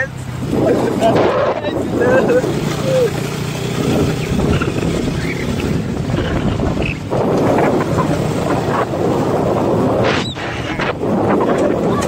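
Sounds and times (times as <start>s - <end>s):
motorcycle engine humming: 0.0s - 12.0s
wind buffeting microphone: 0.0s - 12.0s.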